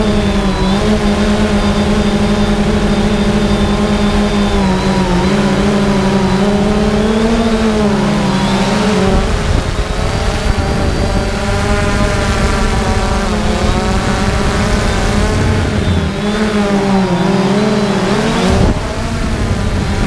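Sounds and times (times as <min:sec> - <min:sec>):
drone propellers whining: 0:00.0 - 0:20.0
low rushing noise: 0:00.0 - 0:20.0.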